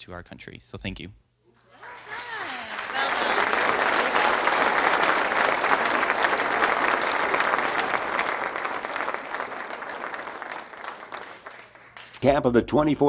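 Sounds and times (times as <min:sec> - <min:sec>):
audience applauding: 0:01.6 - 0:12.4.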